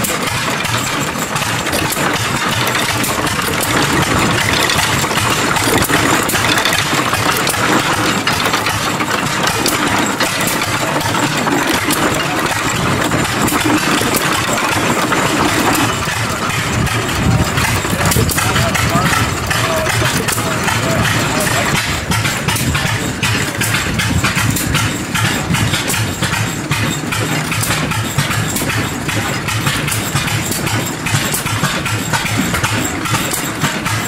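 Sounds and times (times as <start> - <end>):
mechanical clicks and knocks: 0.0 - 34.0
stationary engine running: 0.0 - 34.0.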